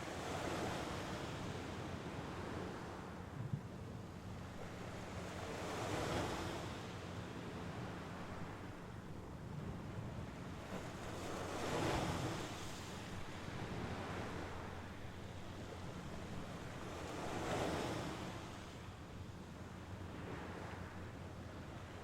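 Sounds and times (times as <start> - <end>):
sea waves breaking on shore: 0.0 - 22.0
steady surf hiss: 0.0 - 22.0.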